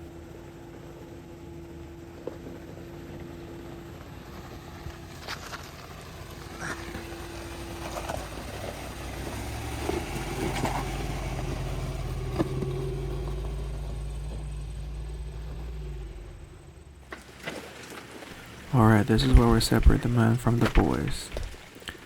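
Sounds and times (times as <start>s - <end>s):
truck engine climbing: 0.0s - 22.0s.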